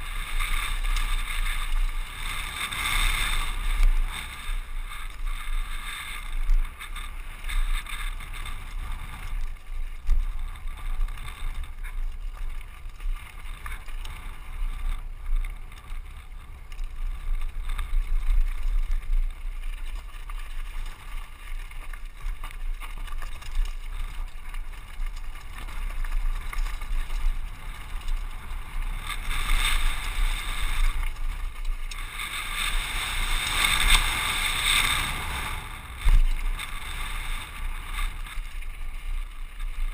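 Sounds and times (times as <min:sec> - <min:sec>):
bike rattling over rocky trail: 0:00.0 - 0:39.9
wind rumbling on microphone: 0:00.0 - 0:39.9.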